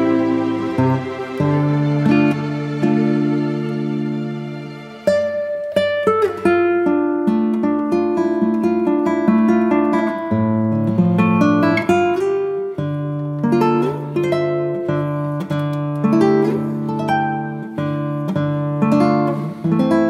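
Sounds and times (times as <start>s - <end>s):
plucked acoustic guitar melody: 0.0s - 20.0s.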